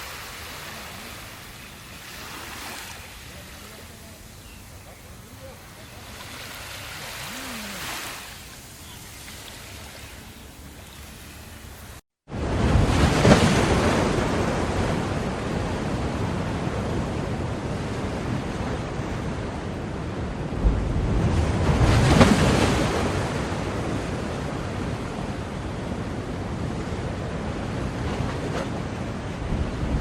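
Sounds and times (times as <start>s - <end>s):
steady wash of water: 0.0s - 30.0s
waves breaking: 0.0s - 30.0s.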